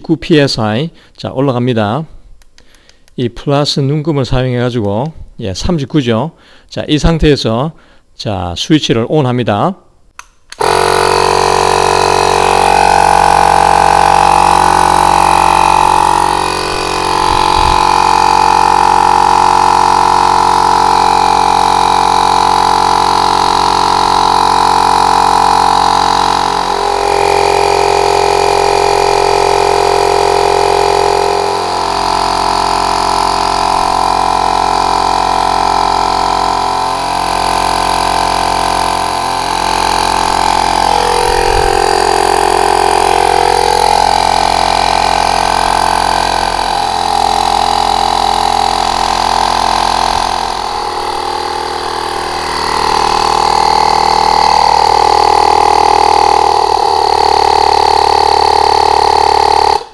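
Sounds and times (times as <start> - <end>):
portable air compressor running: 2.1 - 3.2, 10.5 - 59.9.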